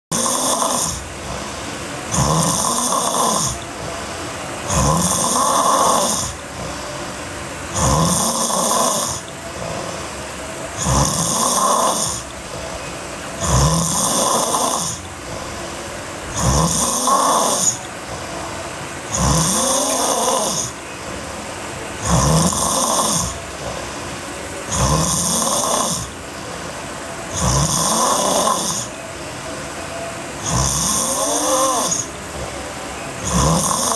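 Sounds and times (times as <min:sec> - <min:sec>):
girl snoring heavily: 0:00.1 - 0:18.5, 0:19.1 - 0:26.7, 0:27.3 - 0:29.0, 0:30.4 - 0:33.9
quiet breathing: 0:00.1 - 0:33.9.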